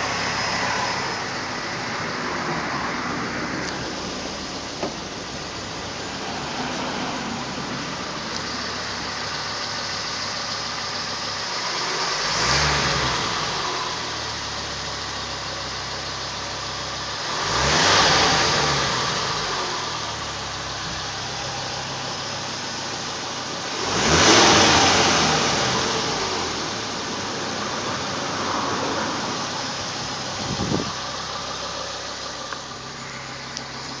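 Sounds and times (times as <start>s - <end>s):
car engine revving: 0.0s - 34.0s
high-pitched engine whine: 0.0s - 34.0s.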